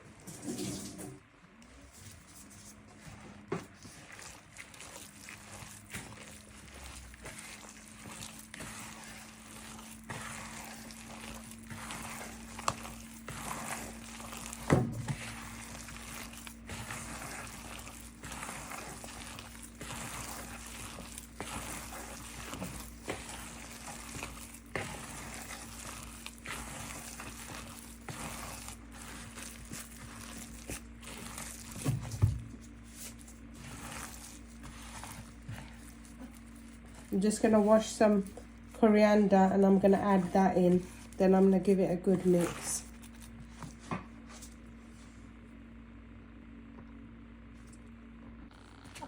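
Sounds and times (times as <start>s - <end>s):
hands kneading mince in a bowl: 1.6s - 45.5s.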